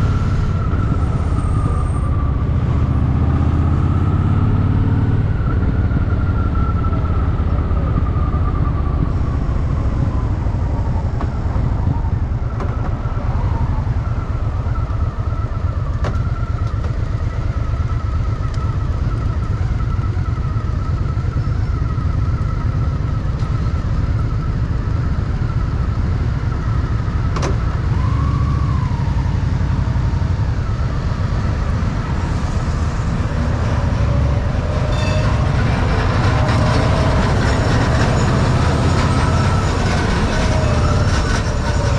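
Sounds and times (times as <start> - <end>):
motorcycle engine rumbling: 0.0 - 41.9.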